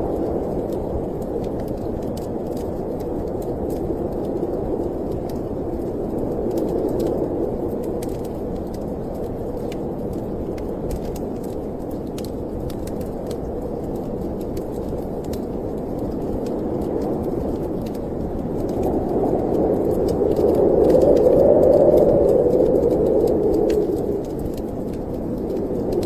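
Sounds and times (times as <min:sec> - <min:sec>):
howling snowstorm wind: 0:00.0 - 0:26.0
wood fire crackling: 0:00.0 - 0:26.0.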